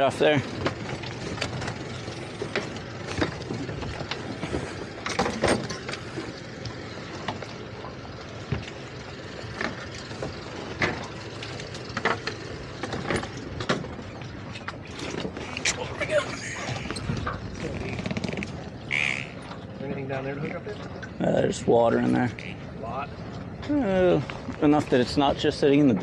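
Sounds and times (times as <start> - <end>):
knocks and clunks on boat deck: 0.0 - 26.0.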